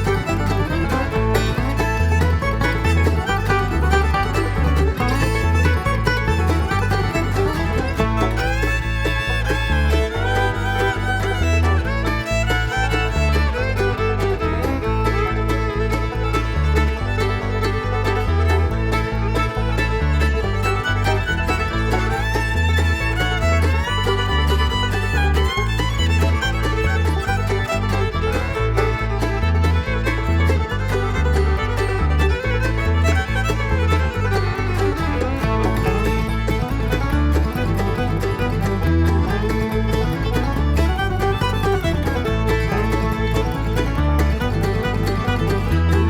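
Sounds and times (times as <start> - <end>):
upbeat country music: 0.0 - 46.0.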